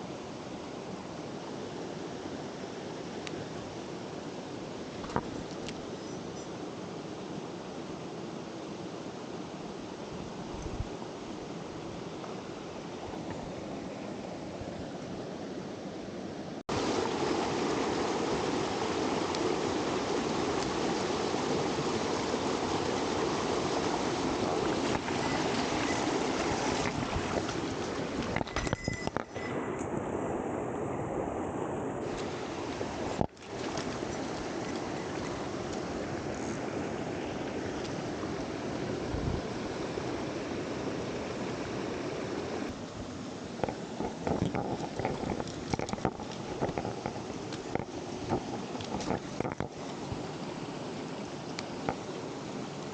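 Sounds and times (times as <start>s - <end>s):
stream water rushing: 0.0s - 52.9s.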